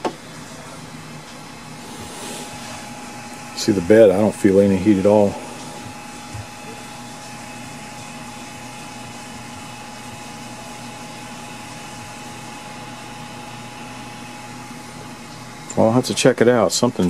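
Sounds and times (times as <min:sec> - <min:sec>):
cooling fans whirring: 0:00.0 - 0:17.0
thin steady whine: 0:00.5 - 0:17.0.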